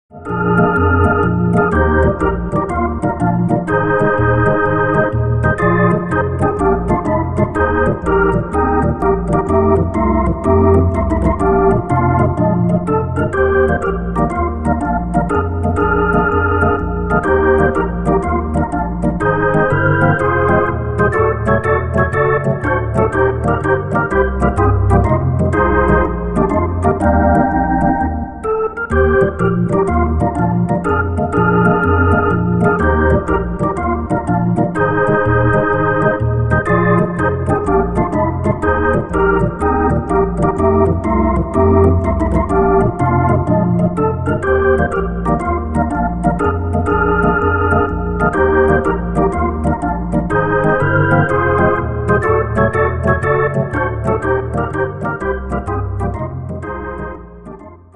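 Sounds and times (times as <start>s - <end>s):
pulsing bass line: 0.1s - 28.3s, 28.9s - 57.6s
organ playing sustained chords: 0.1s - 57.9s.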